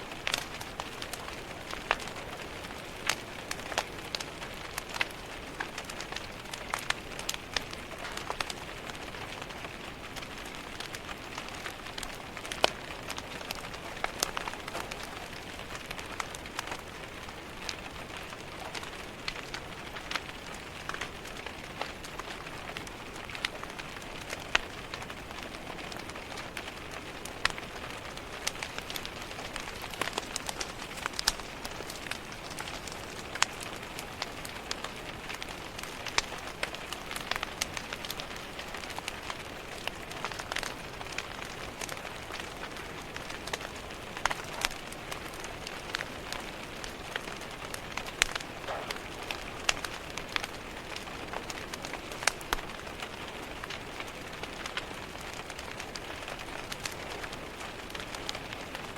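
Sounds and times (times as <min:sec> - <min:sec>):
rain pattering on a window: 0:00.0 - 0:58.9
wood fire crackling: 0:00.0 - 0:58.9.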